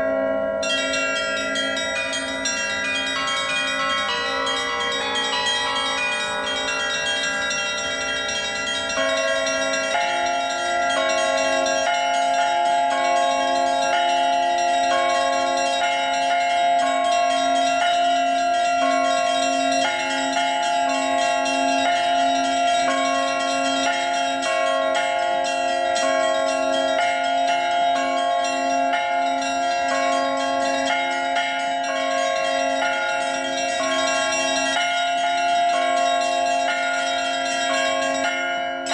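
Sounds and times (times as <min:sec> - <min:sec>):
larger church bells: 0:00.0 - 0:38.9
small chiming bells: 0:00.0 - 0:38.9.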